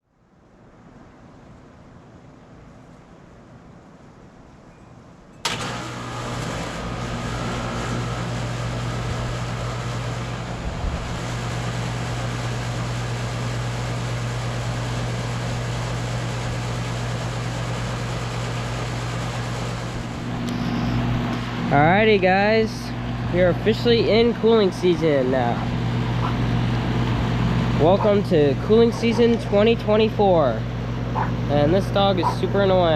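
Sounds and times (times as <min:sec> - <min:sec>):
condenser fan rushing: 0:05.3 - 0:32.9
compressor buzzing hum: 0:05.4 - 0:32.9.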